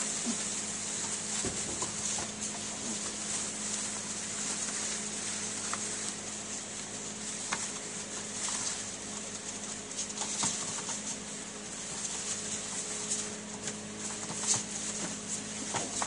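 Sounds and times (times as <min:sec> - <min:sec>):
low hum and hiss: 0:00.0 - 0:16.0
puppy claws pattering: 0:00.1 - 0:16.0.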